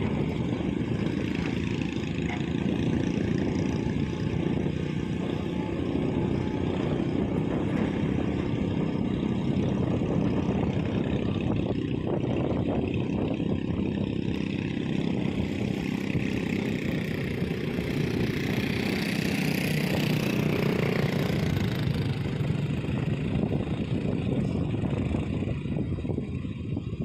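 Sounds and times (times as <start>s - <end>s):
heavy engine running: 0.0s - 27.0s.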